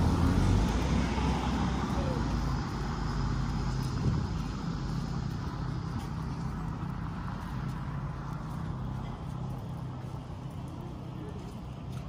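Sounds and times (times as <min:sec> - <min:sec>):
street traffic engine hum: 0:00.0 - 0:12.0.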